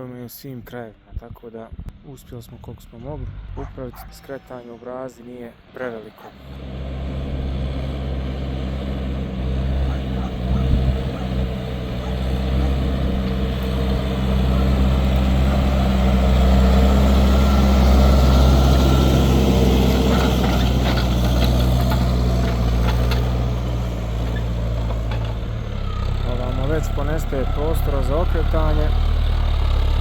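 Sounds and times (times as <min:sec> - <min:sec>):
tractor diesel engine under load: 0:05.7 - 0:30.0.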